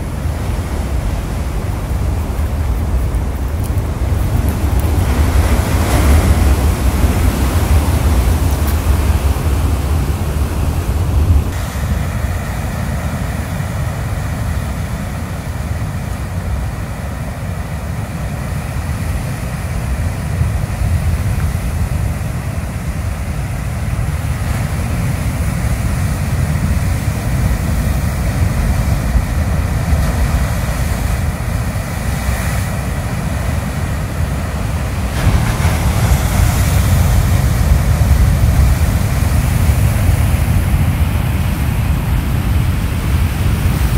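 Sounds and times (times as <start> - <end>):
surf breaking on rocks: 0.0 - 16.8, 18.3 - 43.9
wind buffeting microphone: 0.0 - 43.9.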